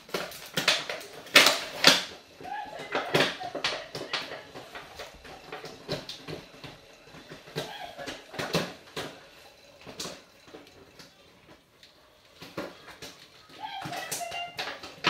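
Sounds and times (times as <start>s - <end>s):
washing machine drum sloshing: 0.0s - 15.0s.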